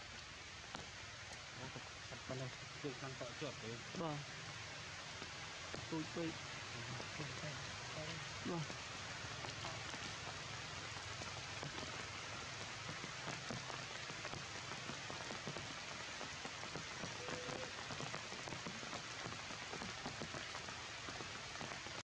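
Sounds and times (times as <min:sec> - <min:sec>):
heavy rain on foliage: 0:00.0 - 0:22.0.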